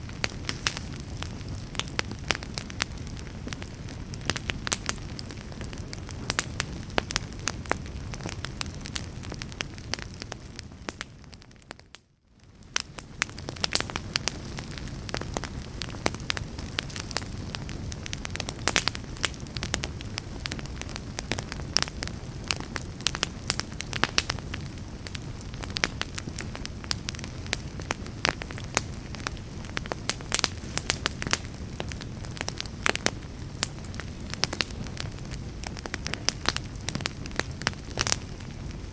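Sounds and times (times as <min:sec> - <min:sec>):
log fire crackling and popping: 0:00.0 - 0:38.9
low rumble of burning: 0:00.0 - 0:38.9.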